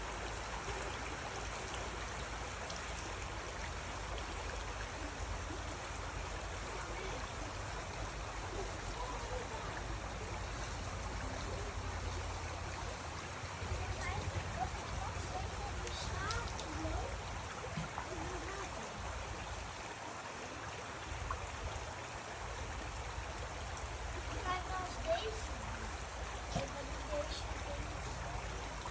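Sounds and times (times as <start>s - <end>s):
flowing water: 0.0s - 28.9s.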